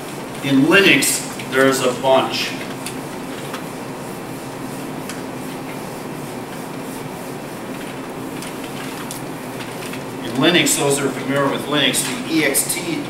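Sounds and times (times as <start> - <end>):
constant hiss: 0.0 - 13.0.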